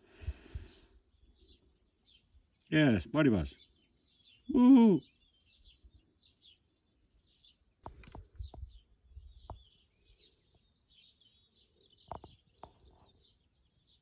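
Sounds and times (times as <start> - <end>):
small birds twittering: 0.0 - 14.0.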